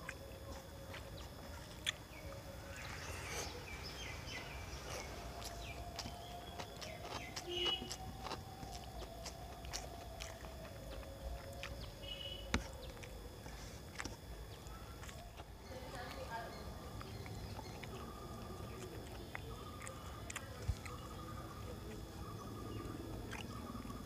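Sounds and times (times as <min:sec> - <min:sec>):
bird chirping: 0:00.0 - 0:13.1, 0:14.4 - 0:24.0
chewing with clicks and smacks: 0:00.0 - 0:24.0.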